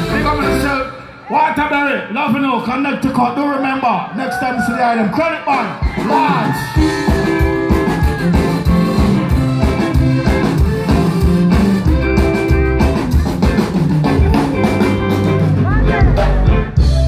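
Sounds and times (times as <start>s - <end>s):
reggae band playing: 0.0s - 3.2s, 5.1s - 17.0s.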